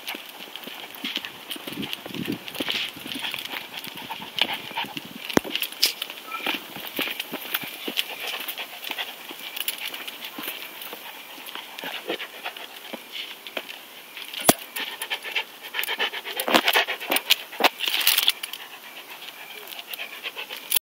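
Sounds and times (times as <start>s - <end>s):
dog footsteps on asphalt: 0.0s - 20.7s
dog panting: 0.3s - 20.8s.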